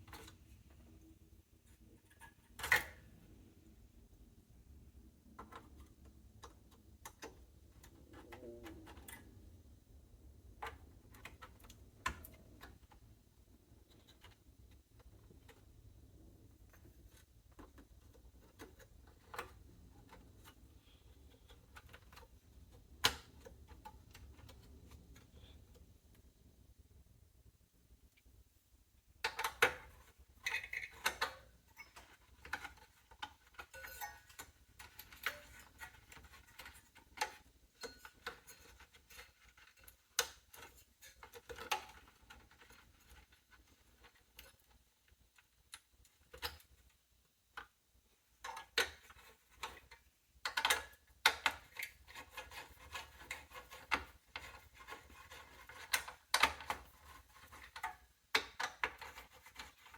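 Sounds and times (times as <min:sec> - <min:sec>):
clicks and scrapes of small parts: 0:00.0 - 0:03.7, 0:04.9 - 0:26.6, 0:29.2 - 0:59.9.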